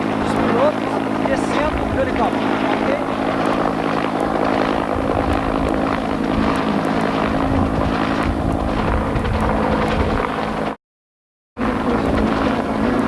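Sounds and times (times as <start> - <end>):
helicopter turbine and rotor: 0.0 - 10.8, 11.6 - 13.0.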